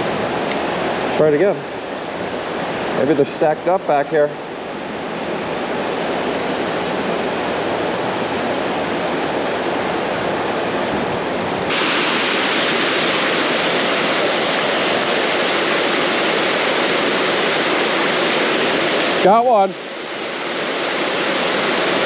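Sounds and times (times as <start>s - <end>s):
water rushing over waterfall: 0.0s - 22.0s.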